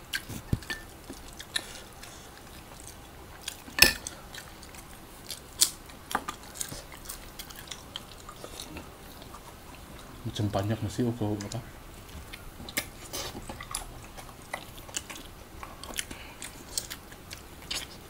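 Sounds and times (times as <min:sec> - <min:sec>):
people chewing with wet smacks: 0:00.0 - 0:18.0.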